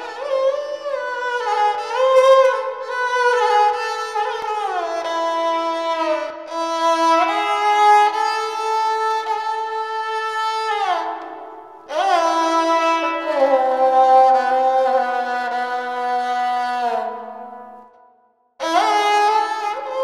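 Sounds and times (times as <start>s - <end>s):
bowed string melody: 0.0s - 17.9s, 18.6s - 20.0s.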